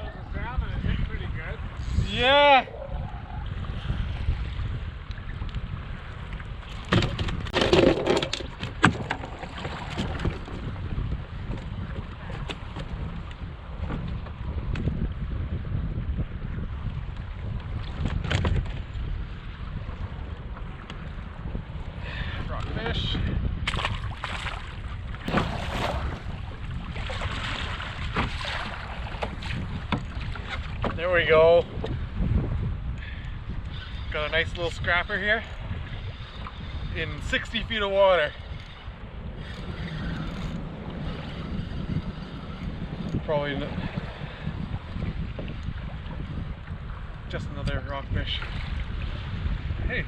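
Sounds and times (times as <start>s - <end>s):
wind buffeting microphone: 0.0s - 50.0s
water splashing against kayak: 1.6s - 15.0s, 17.0s - 49.9s.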